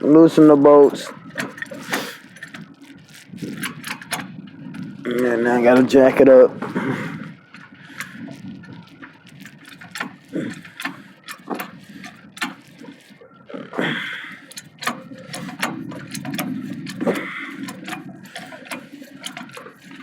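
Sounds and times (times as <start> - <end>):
car jack ratcheting: 0.4 - 20.0.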